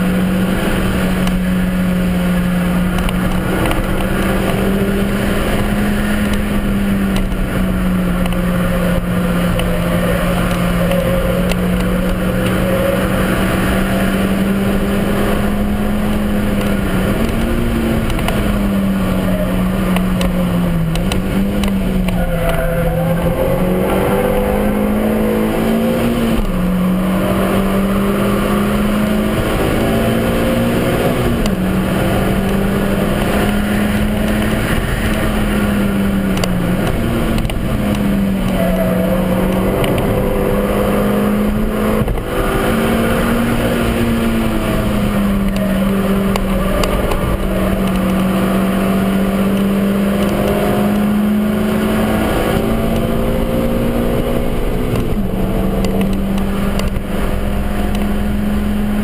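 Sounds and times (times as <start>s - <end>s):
car engine at high revs: 0.0s - 59.0s
tyre and road noise: 0.0s - 59.0s.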